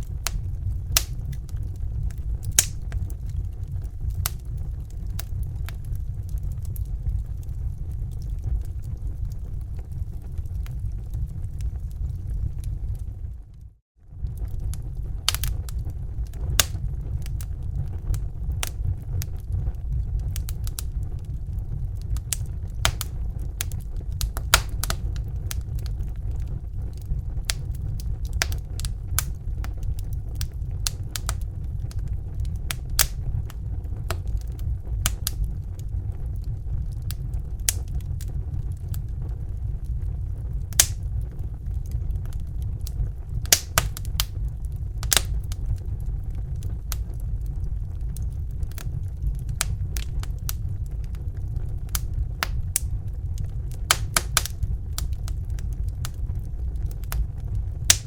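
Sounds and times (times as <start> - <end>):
fire crackling and popping: 0.0 - 58.0
fire low roar: 0.0 - 58.0.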